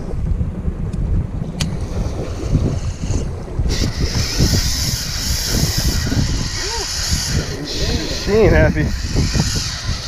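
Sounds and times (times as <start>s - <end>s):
waves alongside boat: 0.0s - 10.0s
wind buffeting microphone: 0.0s - 10.0s.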